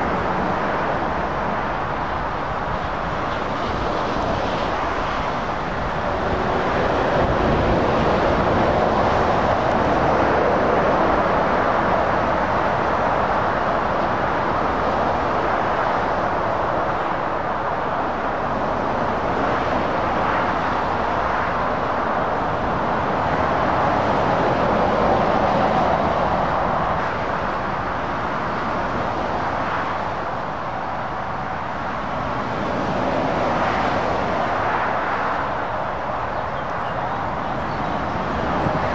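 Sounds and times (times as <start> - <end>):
road traffic passing: 0.0 - 38.9.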